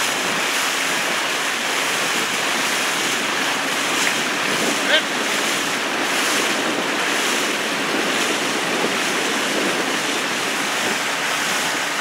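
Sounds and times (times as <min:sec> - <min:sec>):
water rushing and splashing: 0:00.0 - 0:12.0
wind on microphone: 0:00.0 - 0:12.0.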